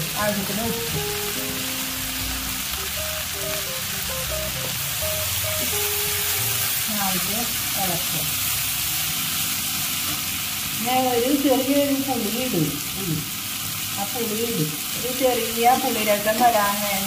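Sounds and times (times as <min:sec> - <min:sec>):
beans sizzling in hot oil: 0:00.0 - 0:17.0.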